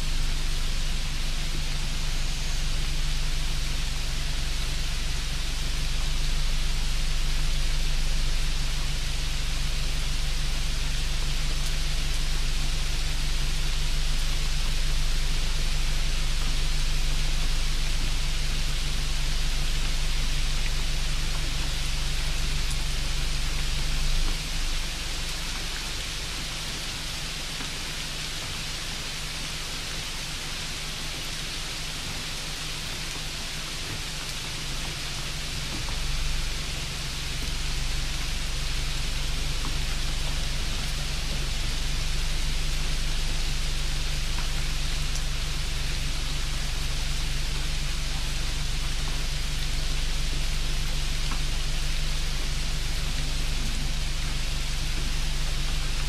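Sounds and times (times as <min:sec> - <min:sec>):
low hum: 0:00.0 - 0:26.8, 0:33.1 - 0:56.0
steady hiss: 0:00.0 - 0:56.0.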